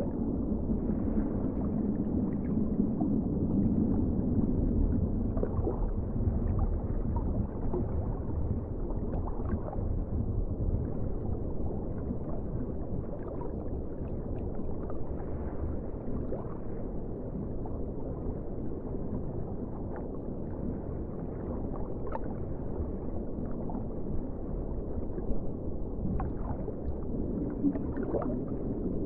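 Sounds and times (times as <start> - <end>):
underwater rumble of moving water: 0.0 - 29.0.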